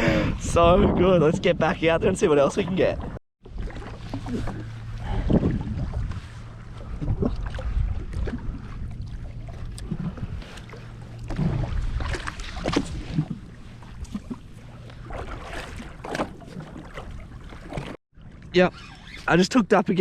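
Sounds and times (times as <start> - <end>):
wind buffeting microphone: 0.0 - 17.4
water against hull: 0.0 - 20.0.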